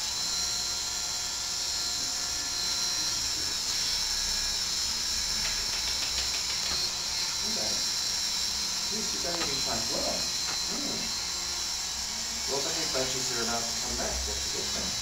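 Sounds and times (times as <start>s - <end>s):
rotary tool whining: 0.0s - 15.0s.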